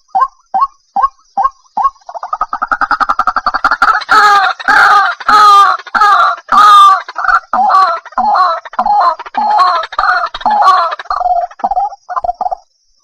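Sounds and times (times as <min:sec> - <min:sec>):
waterhen calling: 0:00.0 - 0:12.6.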